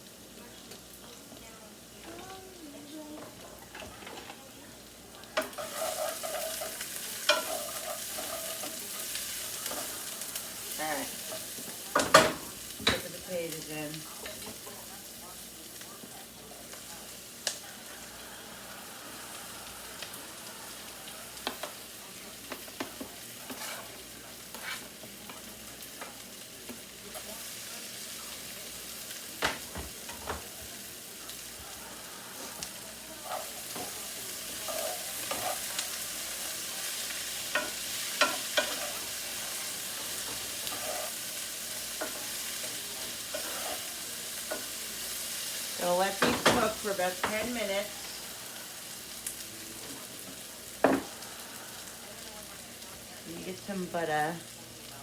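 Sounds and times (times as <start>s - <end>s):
potatoes sizzling in a pan: 0.0s - 55.0s.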